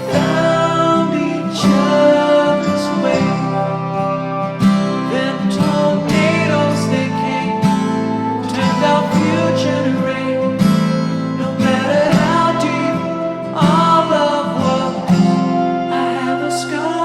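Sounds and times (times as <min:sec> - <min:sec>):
person singing: 0:00.0 - 0:17.0
strummed acoustic guitar: 0:00.0 - 0:17.0.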